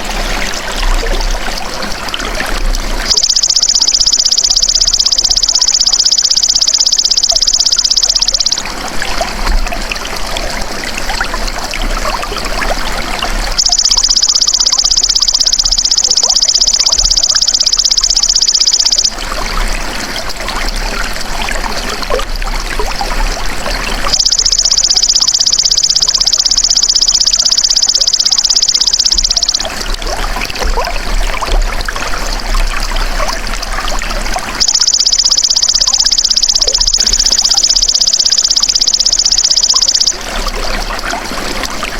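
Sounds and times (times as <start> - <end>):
water trickling: 0.0 - 41.9.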